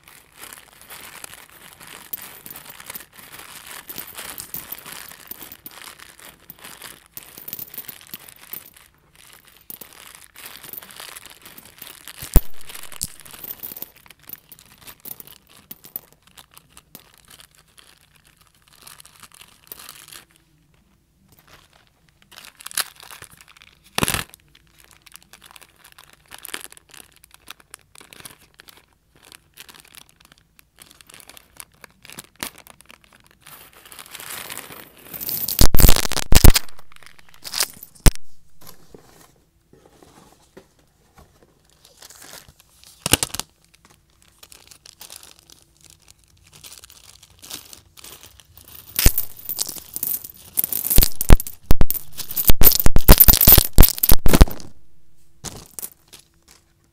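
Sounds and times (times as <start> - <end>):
plastic packaging crinkling: 0.0 - 20.4, 21.4 - 39.0, 41.6 - 56.9.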